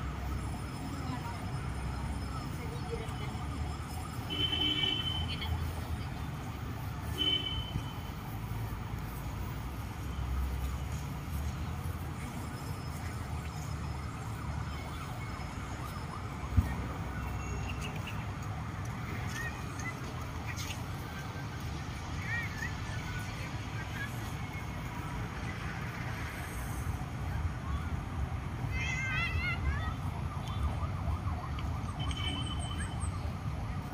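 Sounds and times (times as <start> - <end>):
distant traffic rumble: 0.0 - 33.9.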